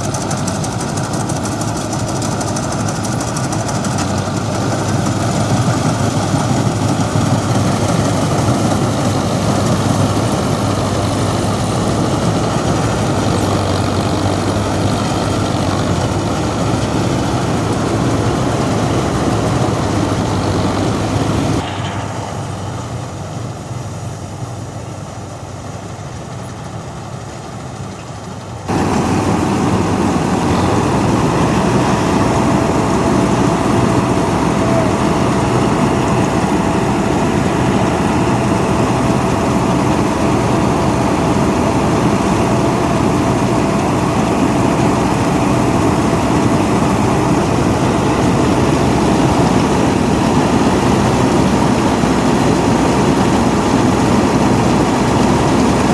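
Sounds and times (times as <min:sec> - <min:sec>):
harvester engine droning: 0:00.0 - 0:55.9.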